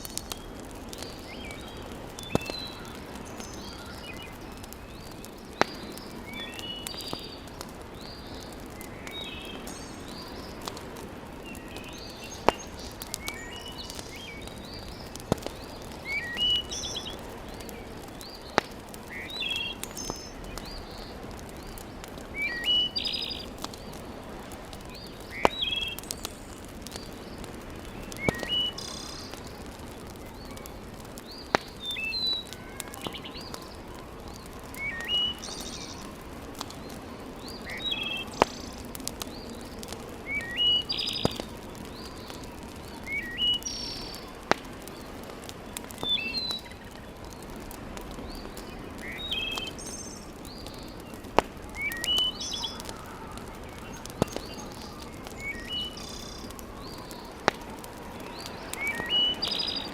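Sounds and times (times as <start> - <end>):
small birds chirping: 0.0 - 59.9
wood fire crackling: 0.0 - 59.9.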